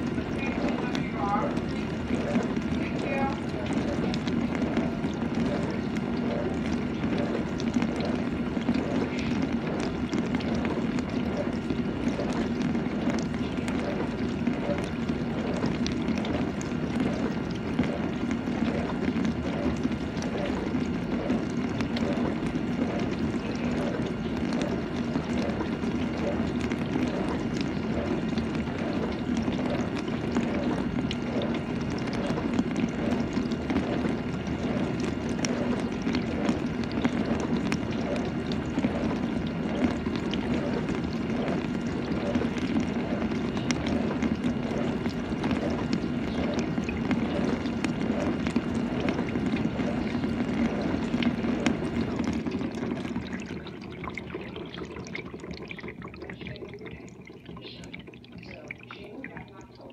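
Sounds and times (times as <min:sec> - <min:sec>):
dishwasher pump hum: 0:00.0 - 0:59.9
water trickling: 0:00.0 - 0:59.9.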